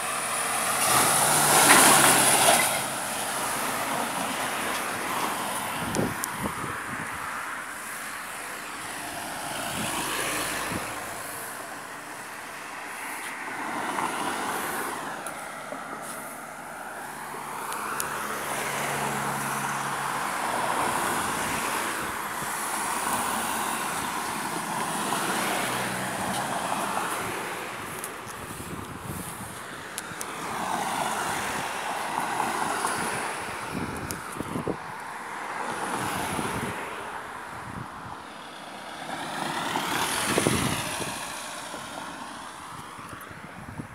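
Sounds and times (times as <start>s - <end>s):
cars passing on road: 0.0s - 43.9s.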